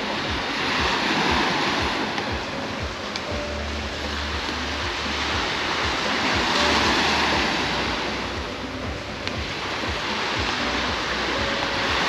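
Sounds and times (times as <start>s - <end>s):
small waves breaking on shore: 0.0s - 12.0s
wind rumbling on microphone: 0.0s - 12.0s.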